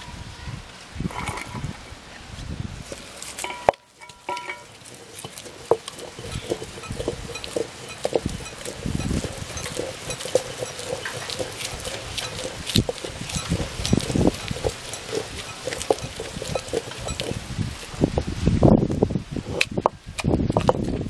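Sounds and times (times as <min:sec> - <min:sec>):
stone grinder crunching and rumbling: 0:02.8 - 0:21.0.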